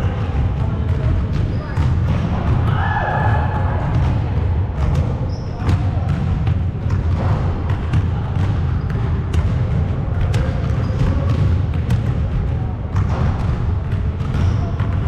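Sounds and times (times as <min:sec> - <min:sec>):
balls bouncing on gym floor: 0:00.0 - 0:15.0.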